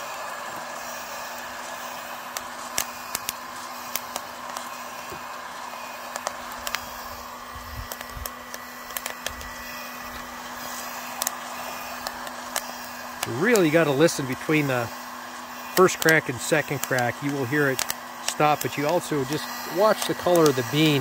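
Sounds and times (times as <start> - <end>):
faint motor hum: 0.0 - 21.0
hot-air blower rushing: 0.0 - 21.0
coffee beans popping: 1.3 - 14.8, 15.7 - 21.0.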